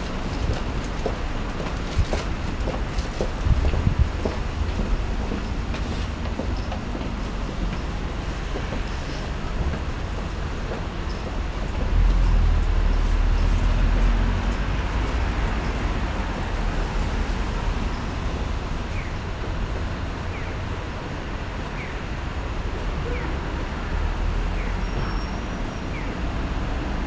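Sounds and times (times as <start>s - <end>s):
distant train and road traffic: 0.0s - 27.0s.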